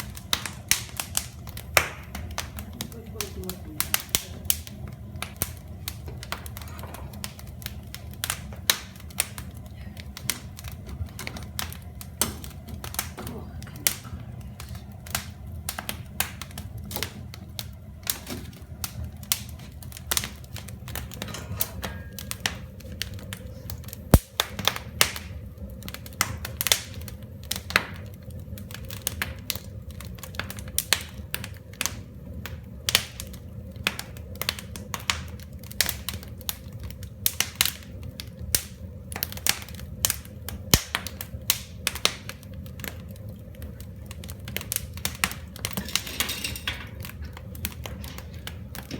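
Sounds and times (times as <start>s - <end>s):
low rumble of fire: 0.0s - 48.9s
wood fire crackling: 0.0s - 48.9s.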